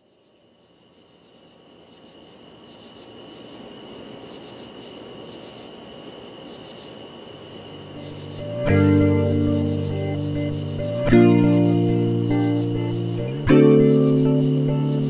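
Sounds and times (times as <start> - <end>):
high whine and hiss: 0.0 - 15.0
insects chirping: 0.0 - 15.0.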